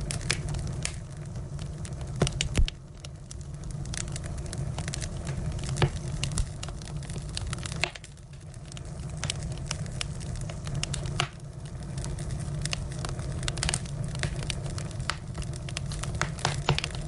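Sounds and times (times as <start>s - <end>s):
firewood burning and crackling: 0.0s - 17.0s.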